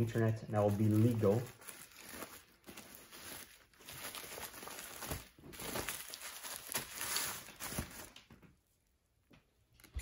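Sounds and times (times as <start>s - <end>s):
bubble wrap crinkling: 0.0s - 8.6s.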